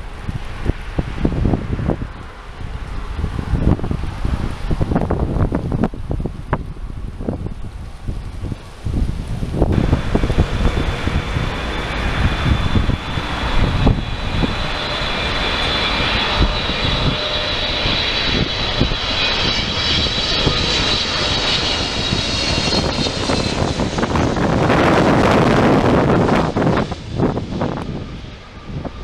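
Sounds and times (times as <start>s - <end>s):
jet engines passing: 0.0s - 29.0s
wind buffeting microphone: 0.0s - 29.0s.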